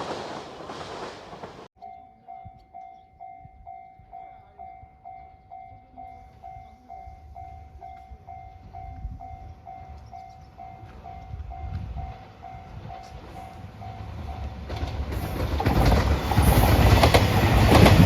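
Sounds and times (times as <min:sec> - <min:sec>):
low train rumble: 0:00.0 - 0:18.0.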